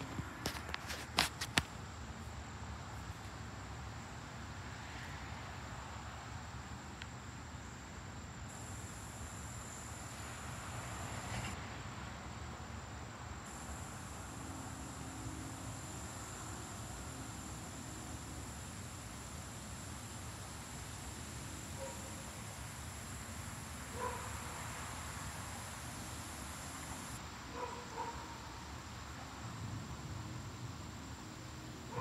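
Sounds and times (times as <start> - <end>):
soft outdoor hiss: 0.0 - 32.0
high-pitched insect chorus: 1.9 - 11.6, 12.3 - 32.0.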